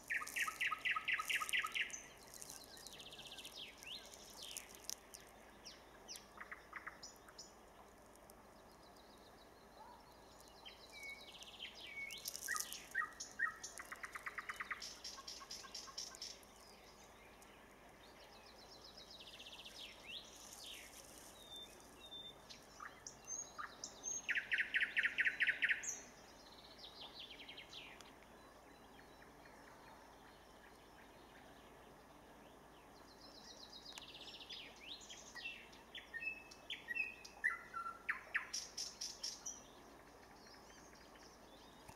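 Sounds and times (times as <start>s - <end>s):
nightingale singing: 0.0s - 7.6s, 9.8s - 29.6s, 32.6s - 41.9s.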